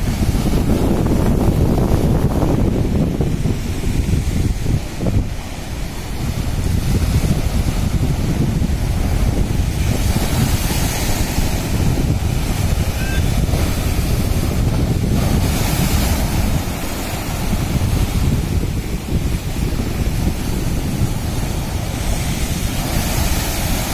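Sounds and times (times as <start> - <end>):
surf breaking against seawall: 0.0 - 23.9
wind buffeting microphone: 0.0 - 23.9.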